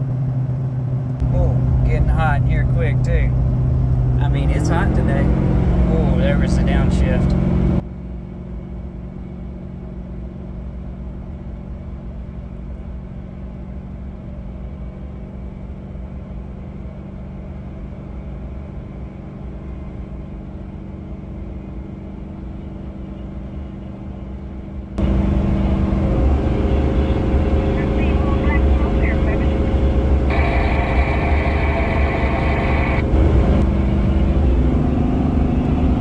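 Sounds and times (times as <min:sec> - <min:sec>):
diesel truck engine droning: 0:00.0 - 0:36.0.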